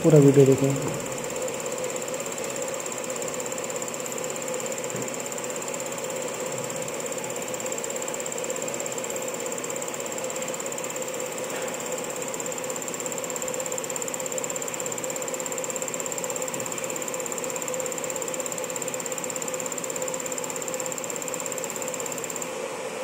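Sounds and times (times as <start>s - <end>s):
test bench machine hum: 0.0s - 23.0s.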